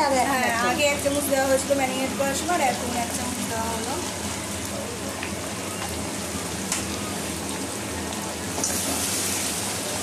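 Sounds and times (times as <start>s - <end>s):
curry sizzling in a pan: 0.0s - 10.0s.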